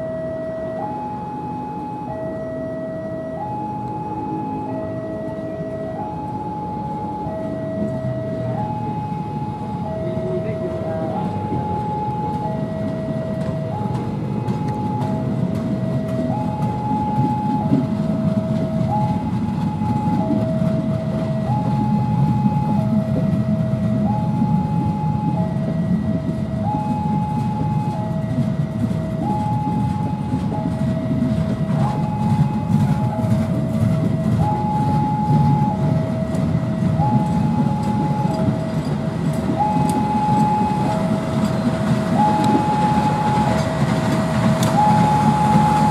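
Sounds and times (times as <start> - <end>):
train coaches rumbling and clattering: 0.0 - 45.9
two-tone crossing alarm: 0.0 - 45.9.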